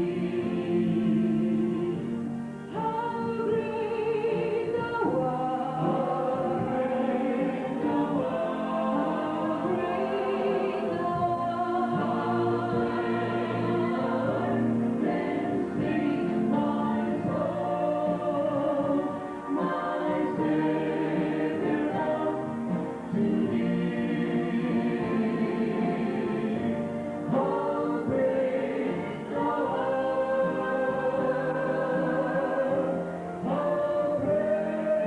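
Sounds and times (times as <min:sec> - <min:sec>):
choir singing: 0:00.0 - 0:35.0
musical accompaniment: 0:00.0 - 0:35.0.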